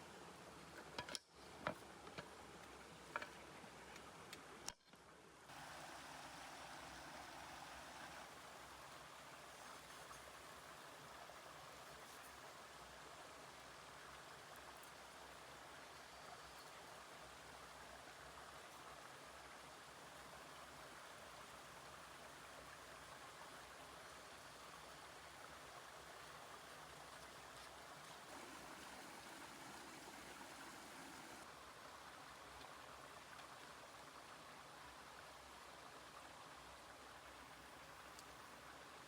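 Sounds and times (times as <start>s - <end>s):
running water rushing: 5.5s - 39.0s.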